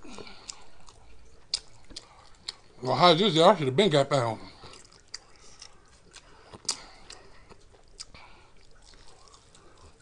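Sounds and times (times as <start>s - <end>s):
chewing noodles: 0.0s - 2.8s, 4.5s - 10.0s.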